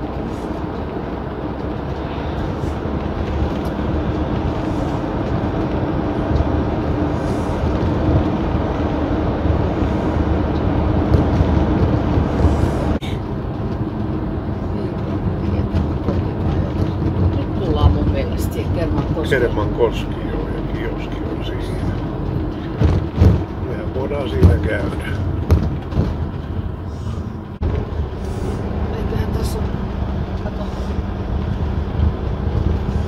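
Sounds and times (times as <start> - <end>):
low hum: 0.0 - 33.0
motorhome engine and tyre noise: 0.0 - 33.0.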